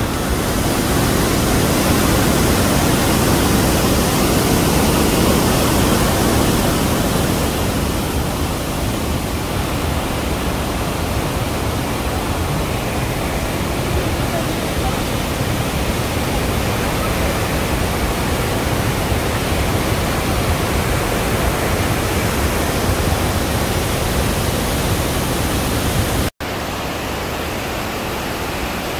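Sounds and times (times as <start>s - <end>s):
rush of falling water: 0.0s - 28.9s.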